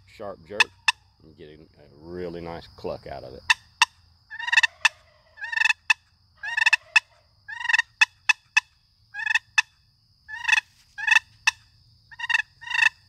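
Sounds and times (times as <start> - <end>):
box turkey call clucking: 0.0 - 1.2, 3.4 - 13.0.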